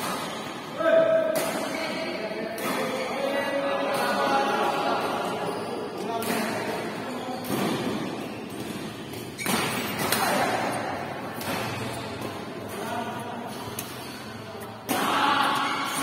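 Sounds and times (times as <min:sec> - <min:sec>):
rackets hitting shuttlecock: 0:00.0 - 0:04.4, 0:06.2 - 0:16.0.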